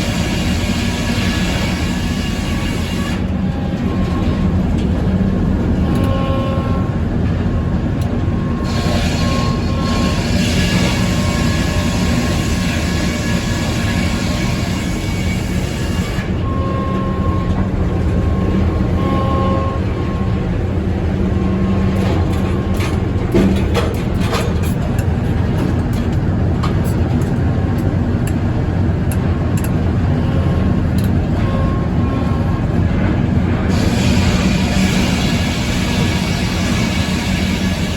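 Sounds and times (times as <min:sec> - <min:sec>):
sawmill engine hum: 0:00.0 - 0:37.9.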